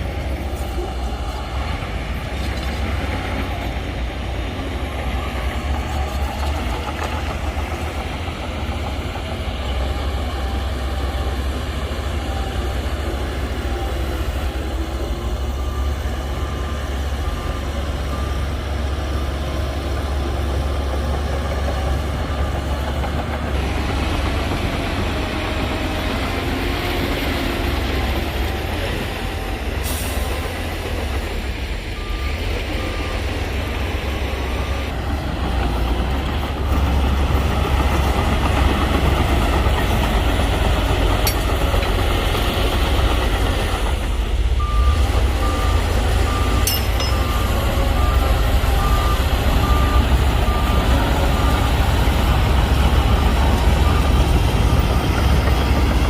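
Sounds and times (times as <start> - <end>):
heavy machinery engine rumble: 0.0 - 56.0
reversing alarm beeping: 0.1 - 56.0.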